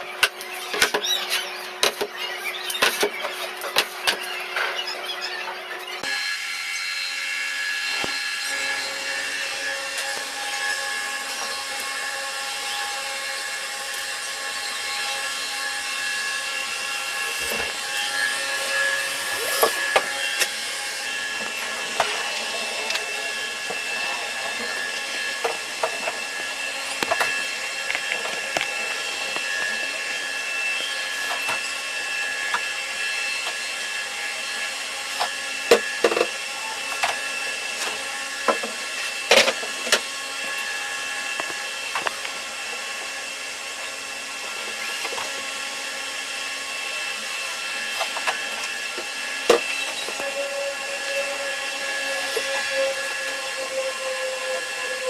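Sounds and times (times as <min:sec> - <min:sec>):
machine whine: 0:00.0 - 0:55.0.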